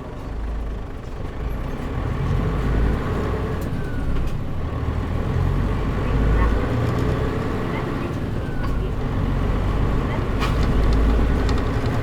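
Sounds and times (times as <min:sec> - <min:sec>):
bus diesel engine running: 0:00.0 - 0:12.0
road noise: 0:00.0 - 0:12.0.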